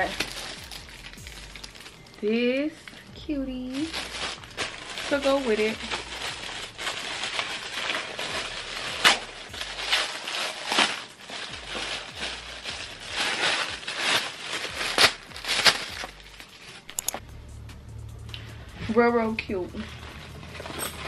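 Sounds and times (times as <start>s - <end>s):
plastic bag crinkling: 0.0s - 17.2s.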